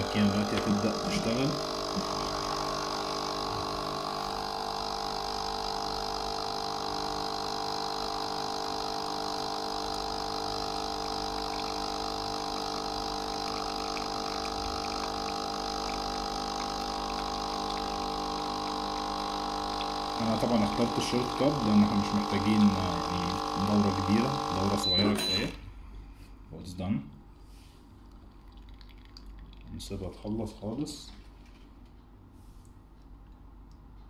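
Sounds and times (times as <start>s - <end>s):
coffee machine pump humming: 0.0s - 26.1s, 27.3s - 32.3s.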